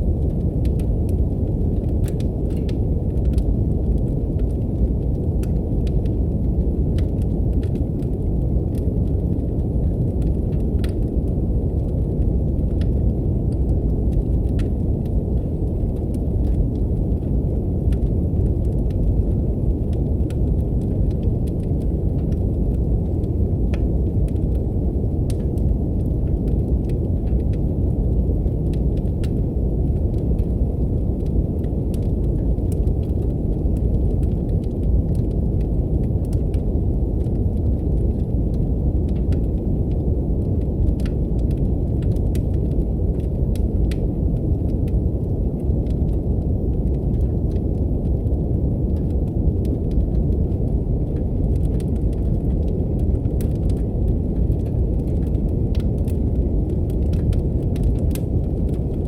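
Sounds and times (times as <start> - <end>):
brown noise hiss: 0.0 - 59.0
wood fire crackles: 0.0 - 59.0.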